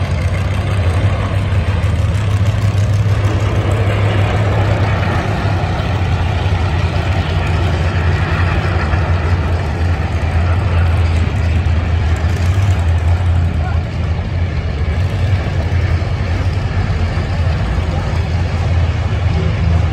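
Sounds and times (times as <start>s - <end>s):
race car engines idling: 0.0s - 19.9s.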